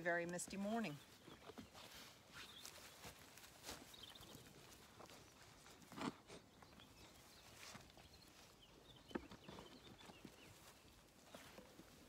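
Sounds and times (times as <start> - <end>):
lambs moving on grass: 0.0 - 12.0.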